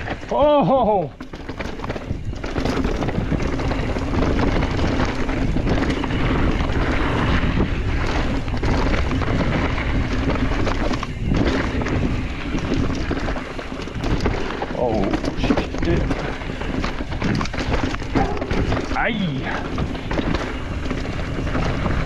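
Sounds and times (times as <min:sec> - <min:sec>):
bike rattling and knocking: 0:00.0 - 0:22.0
wind on microphone: 0:01.1 - 0:22.0.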